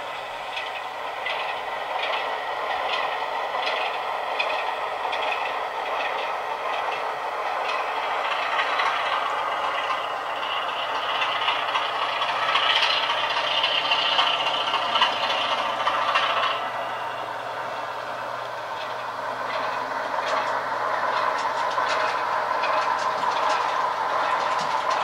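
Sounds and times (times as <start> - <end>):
model train wagons rattling: 0.0 - 25.0
wheels clicking over rail joints: 0.0 - 25.0.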